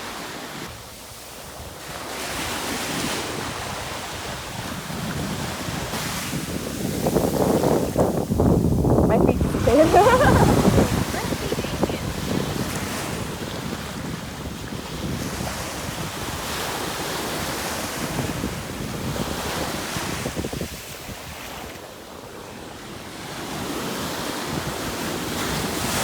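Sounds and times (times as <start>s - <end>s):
ocean surf washing up beach: 0.0s - 26.0s
wind buffeting microphone: 0.6s - 21.8s.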